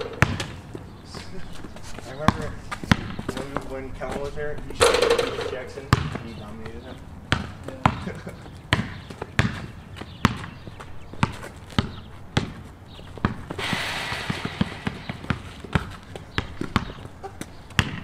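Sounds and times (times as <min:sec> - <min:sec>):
basketball bouncing on concrete: 0:00.0 - 0:00.8, 0:02.2 - 0:18.0.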